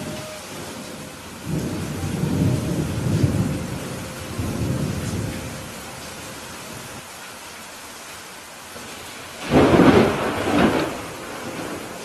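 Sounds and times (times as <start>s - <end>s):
thunder rumbling: 0.0s - 7.0s, 8.8s - 12.0s
rain hissing: 0.0s - 12.0s.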